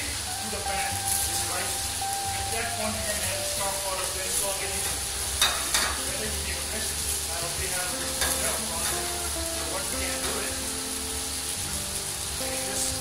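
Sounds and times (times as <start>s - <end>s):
faint background music: 0.0s - 13.0s
rice sizzling in a frying pan: 0.0s - 13.0s.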